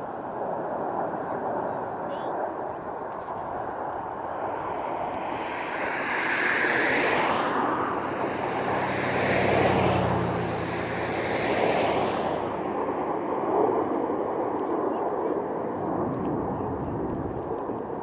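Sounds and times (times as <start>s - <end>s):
aircraft flying past: 0.7s - 17.8s.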